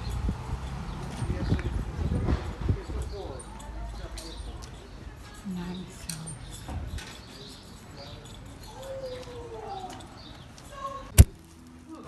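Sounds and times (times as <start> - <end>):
faint footsteps on sidewalk: 0.0 - 12.0.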